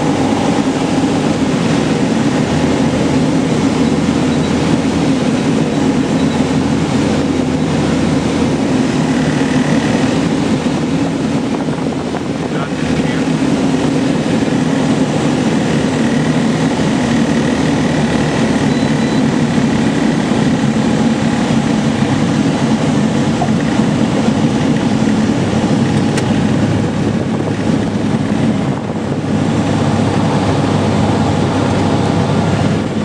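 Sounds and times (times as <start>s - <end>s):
aircraft engine and propeller drone: 0.0s - 33.0s.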